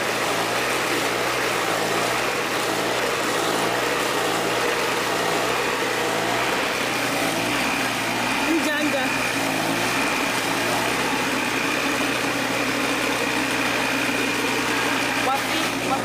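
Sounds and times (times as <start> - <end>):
grating machine engine running: 0.0 - 16.0.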